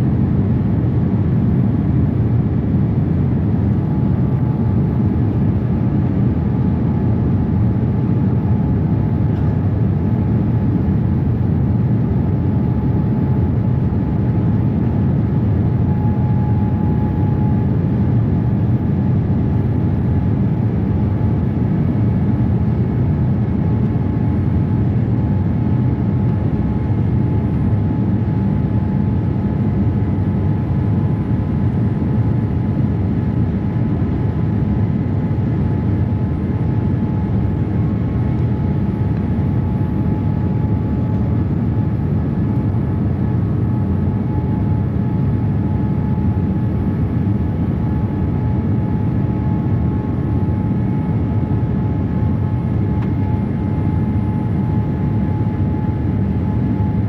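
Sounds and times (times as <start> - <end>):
airplane cabin airflow and engine noise: 0.0 - 57.0.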